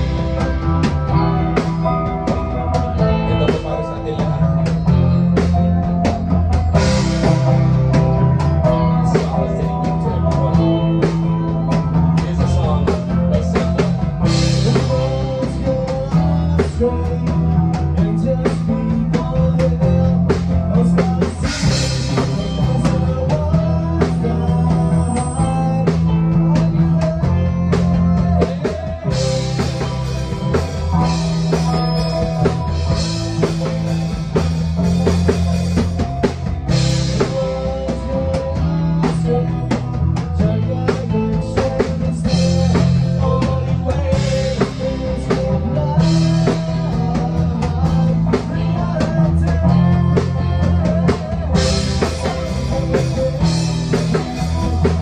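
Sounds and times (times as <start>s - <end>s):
band jamming: 0.0s - 55.0s
drum kit beat: 0.0s - 55.0s
guitar: 0.0s - 55.0s.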